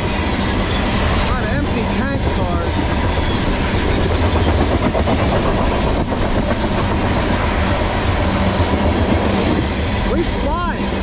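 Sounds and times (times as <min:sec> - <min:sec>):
steel wheels on rails: 0:00.0 - 0:11.0.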